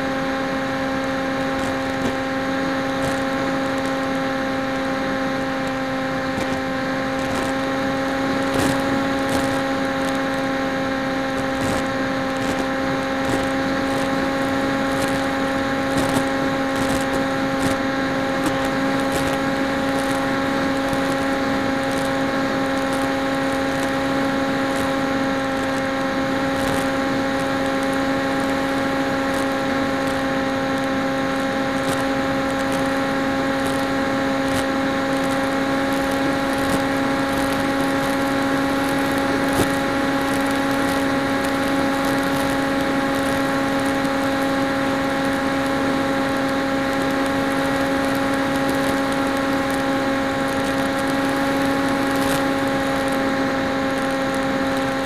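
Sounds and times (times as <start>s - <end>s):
electric motor buzzing hum: 0.0s - 55.0s.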